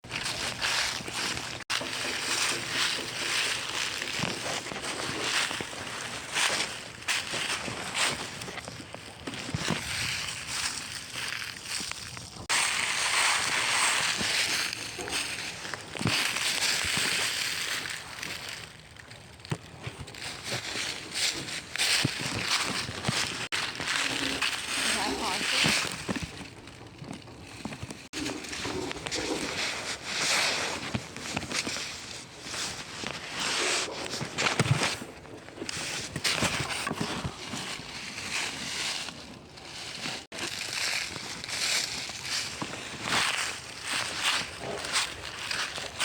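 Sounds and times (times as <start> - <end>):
crunching footsteps outdoors: 0.0 - 46.0.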